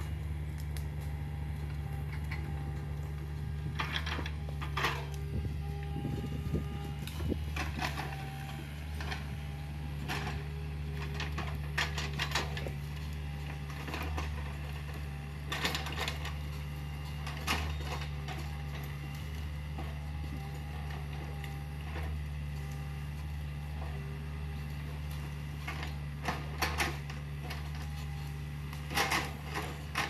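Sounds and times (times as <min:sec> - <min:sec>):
excavator diesel engine humming: 0:00.0 - 0:30.0.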